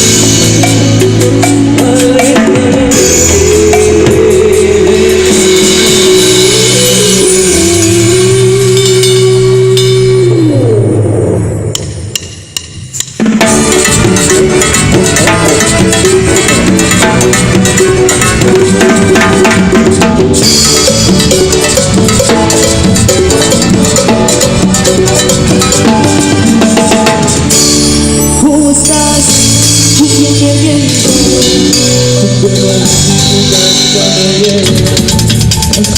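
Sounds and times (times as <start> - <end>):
cumbia band playing: 0.0 - 35.9
timbales and drums: 0.0 - 35.9.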